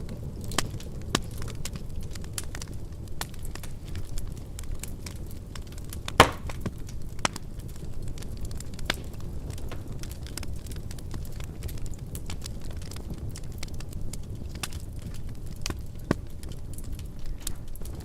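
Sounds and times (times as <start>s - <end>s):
low rumble of flames: 0.0s - 18.0s
wood fire crackling: 0.0s - 18.0s.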